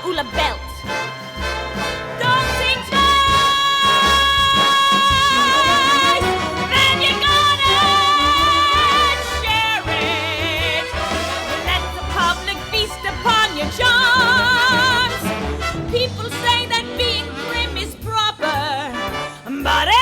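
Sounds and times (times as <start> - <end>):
band playing: 0.0 - 20.0.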